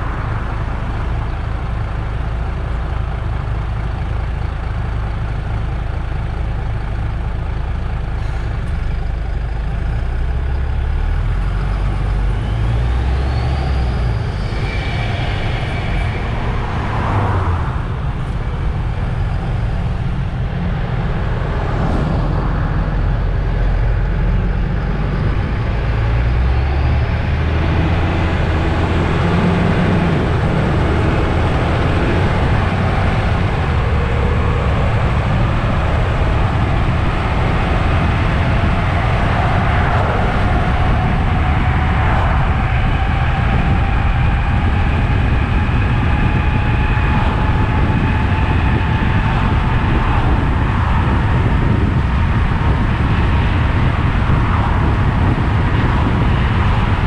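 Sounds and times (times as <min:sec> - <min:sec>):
bus diesel engine rumble: 0:00.0 - 0:57.0
rising engine whine: 0:00.0 - 0:57.0.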